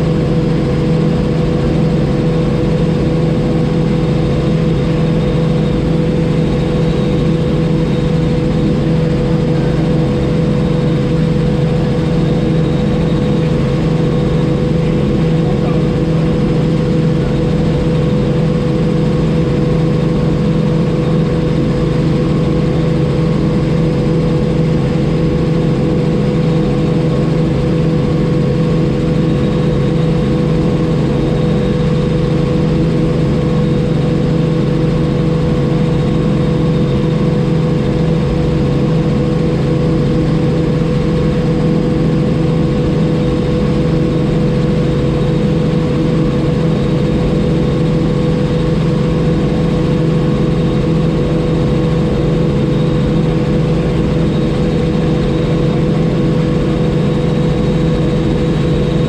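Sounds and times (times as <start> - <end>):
helicopter engine and rotors drone: 0.0 - 59.0.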